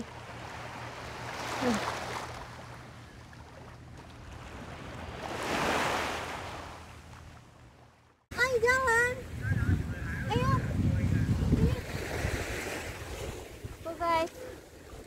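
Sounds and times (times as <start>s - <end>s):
small waves lapping on beach: 0.0s - 9.4s, 11.3s - 15.0s.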